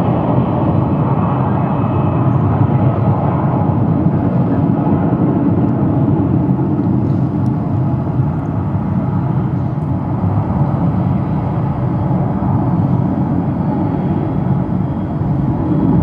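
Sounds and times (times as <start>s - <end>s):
jet engines deep rumble: 0.0s - 16.0s.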